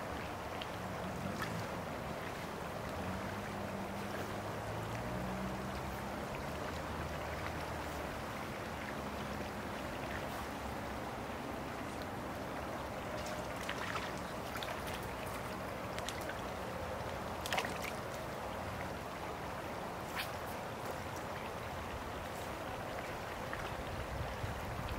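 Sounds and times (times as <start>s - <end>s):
creek water flowing: 0.0s - 24.9s.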